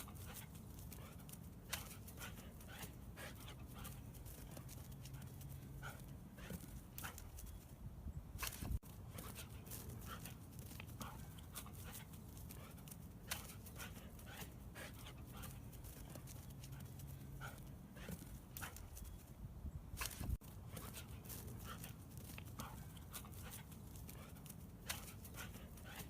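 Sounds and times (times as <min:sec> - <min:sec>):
dog panting: 0:00.0 - 0:07.7, 0:08.4 - 0:19.2, 0:20.0 - 0:26.0.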